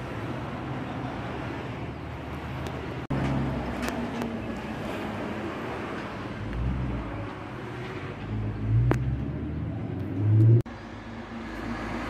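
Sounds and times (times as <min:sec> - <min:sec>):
road traffic: 0:00.0 - 0:12.0
vehicle engine rumble: 0:00.0 - 0:12.0.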